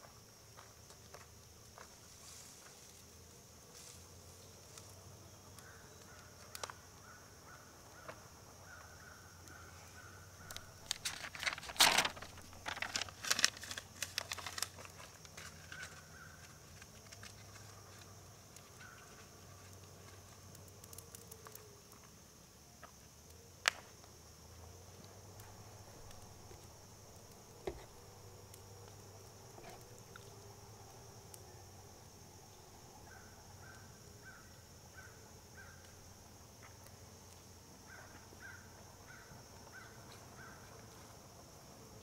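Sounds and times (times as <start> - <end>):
insects buzzing: 0.0 - 42.0.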